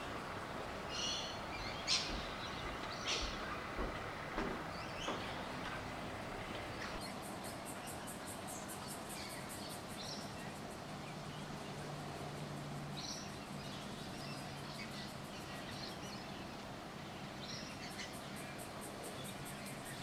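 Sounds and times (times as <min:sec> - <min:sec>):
background hiss and hum: 0:00.0 - 0:20.0
distant birds chirping: 0:00.0 - 0:20.0.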